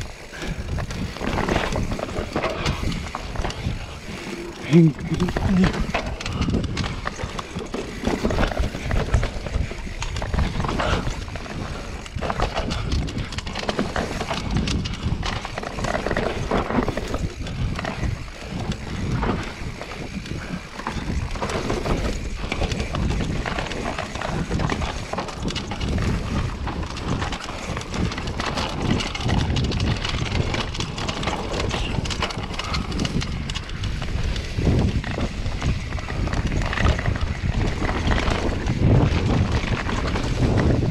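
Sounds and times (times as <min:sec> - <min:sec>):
bike rattling and knocking: 0:00.0 - 0:40.9
tyres crunching over dirt and stones: 0:00.0 - 0:40.9.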